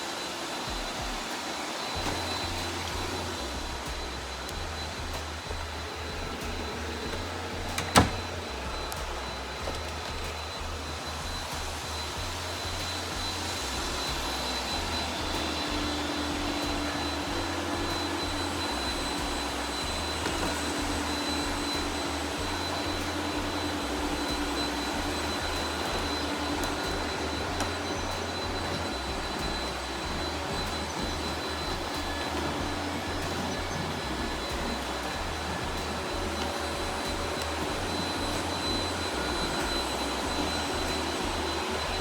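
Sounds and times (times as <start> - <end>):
robot vacuum whirring: 0.0 - 42.0.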